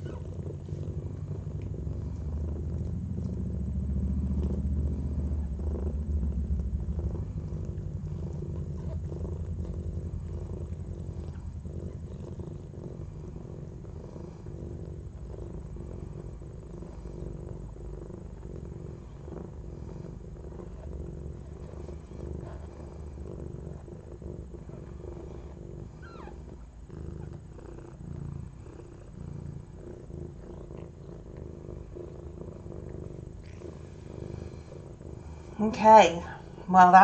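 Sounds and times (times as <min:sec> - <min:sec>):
cat purring: 0:00.0 - 0:37.0.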